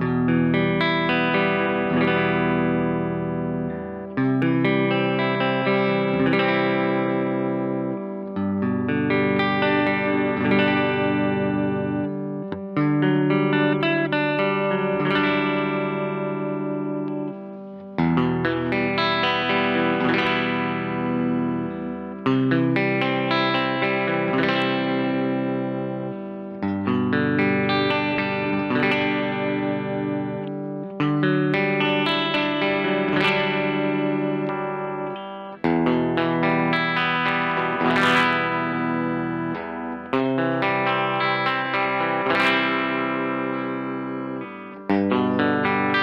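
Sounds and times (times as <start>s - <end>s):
electric guitar chords ringing: 0.0s - 46.0s.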